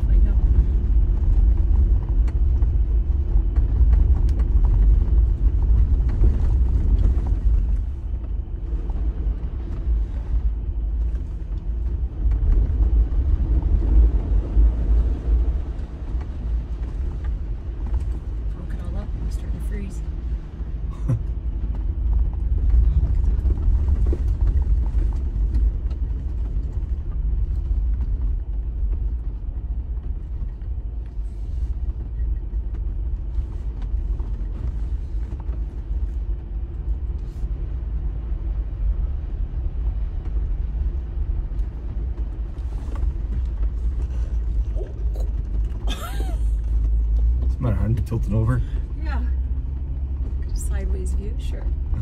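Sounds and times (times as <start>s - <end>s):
vehicle engine rumbling: 0.0s - 52.0s.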